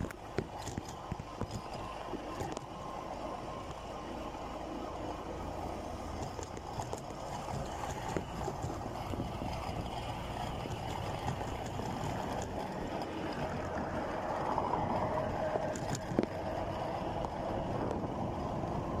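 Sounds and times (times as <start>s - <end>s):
moving vehicle noise: 0.0s - 19.0s.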